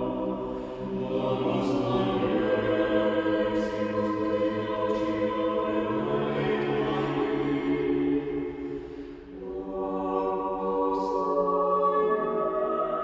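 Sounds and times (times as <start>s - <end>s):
choir singing a slow chant: 0.0s - 13.0s.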